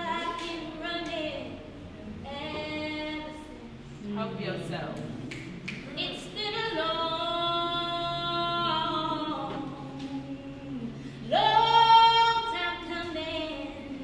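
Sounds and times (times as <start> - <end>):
woman singing a cappella: 0.0 - 3.7, 6.0 - 14.0.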